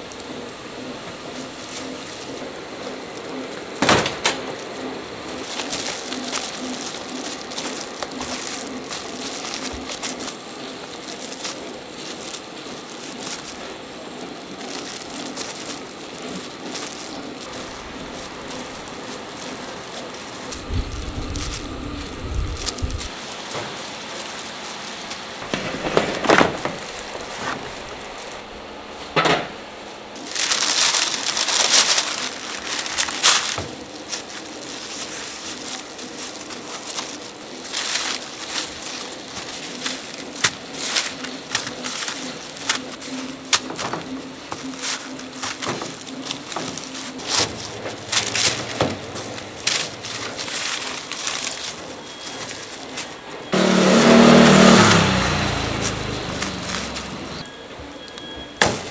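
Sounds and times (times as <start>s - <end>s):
gloved hands crinkling: 0.0s - 29.1s, 29.7s - 57.5s
food set on wooden trays: 1.1s - 58.9s.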